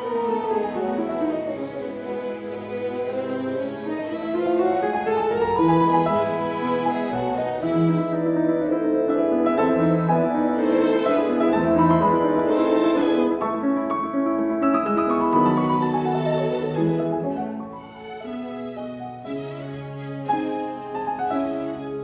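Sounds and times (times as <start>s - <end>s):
bowed strings: 0.0s - 22.0s
piano: 0.0s - 22.0s.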